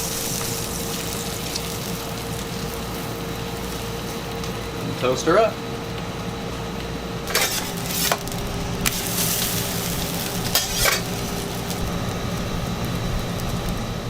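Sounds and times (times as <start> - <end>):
food sizzling on hot surface: 0.0 - 14.0.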